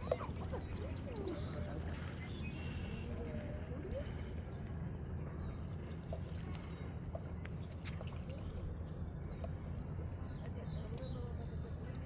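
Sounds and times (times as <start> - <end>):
water sloshing and lapping: 0.0 - 12.0.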